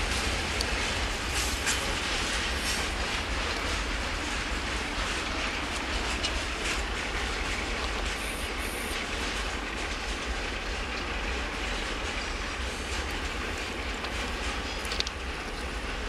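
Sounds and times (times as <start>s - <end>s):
train wheels rumbling on rails: 0.0s - 16.0s
wheels clicking over rail joints: 0.0s - 16.0s.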